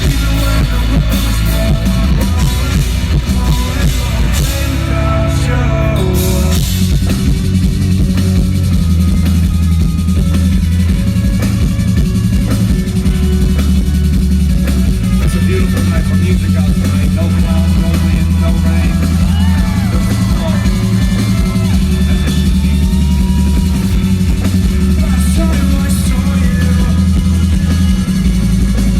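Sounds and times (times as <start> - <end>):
heavy steady bass: 0.0 - 28.9
live rock band: 0.0 - 28.9.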